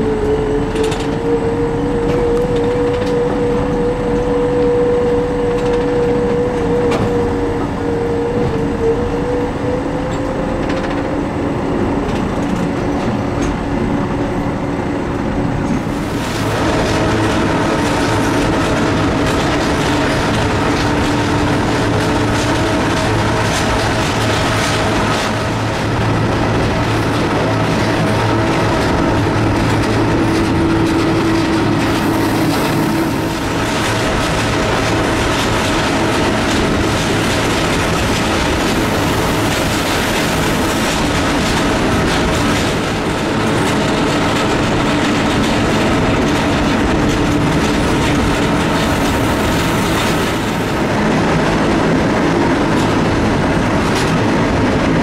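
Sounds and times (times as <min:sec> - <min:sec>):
train wheels rumbling and clicking: 0:00.0 - 0:55.0.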